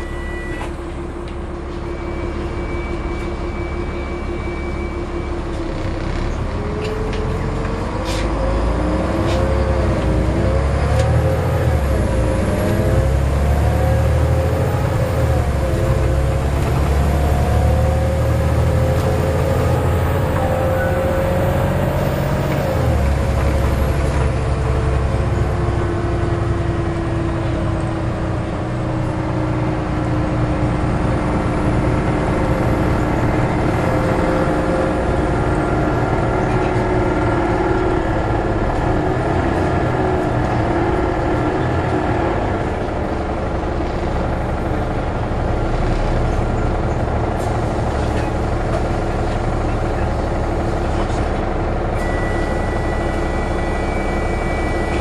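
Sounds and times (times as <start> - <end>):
bus engine running: 0.0 - 55.0
road rumble: 0.0 - 55.0.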